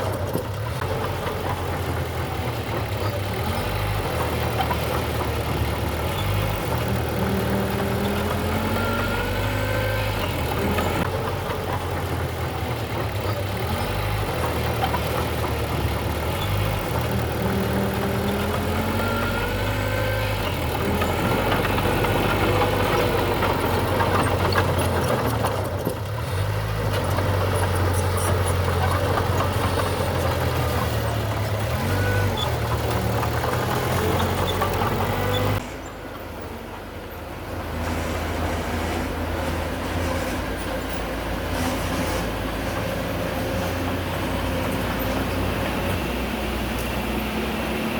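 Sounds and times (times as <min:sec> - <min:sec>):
diesel engine of heavy machinery: 0:00.0 - 0:47.9.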